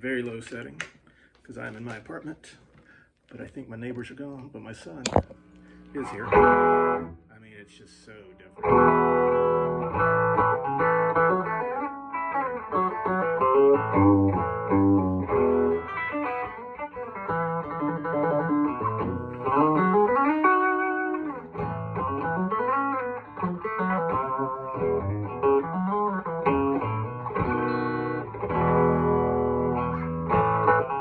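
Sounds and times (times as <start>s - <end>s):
clean electric guitar: 5.0s - 7.3s, 8.0s - 31.0s.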